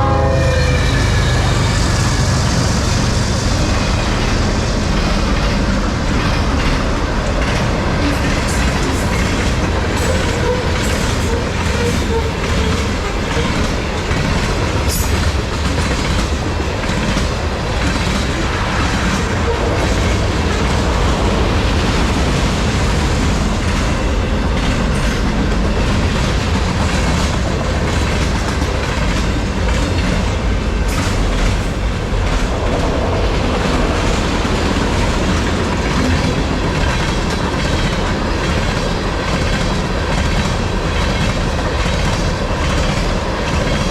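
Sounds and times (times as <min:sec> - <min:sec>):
train wheels rumbling on rail: 0:00.0 - 0:43.9
wheels clacking over rail joints: 0:00.9 - 0:43.9.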